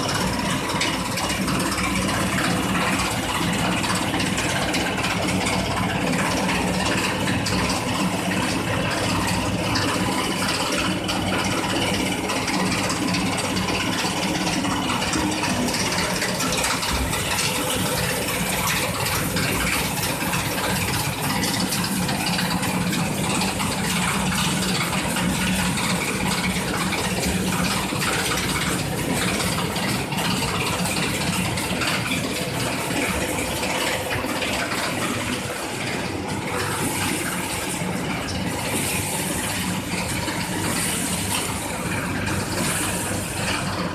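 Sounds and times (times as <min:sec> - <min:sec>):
packing machine humming: 0:00.0 - 0:43.9.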